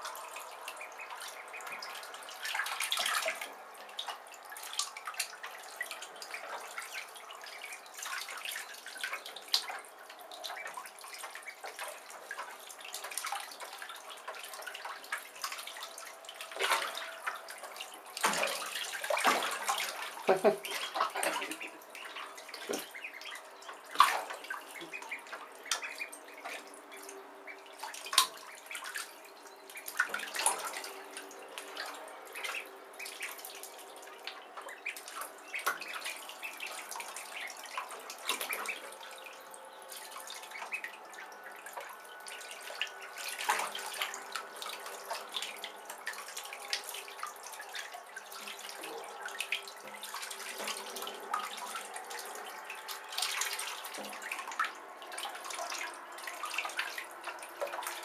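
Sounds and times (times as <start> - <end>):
ducklings splashing in bathwater: 0.0 - 58.0.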